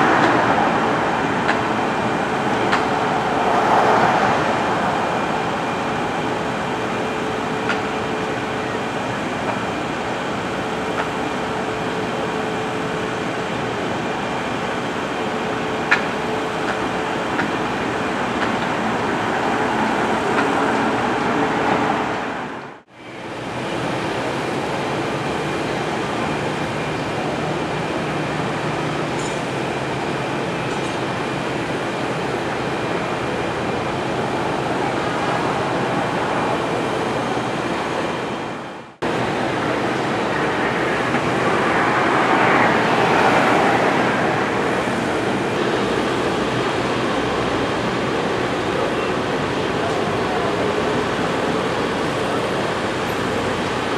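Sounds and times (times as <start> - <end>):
steady rushing noise: 0.0 - 53.9.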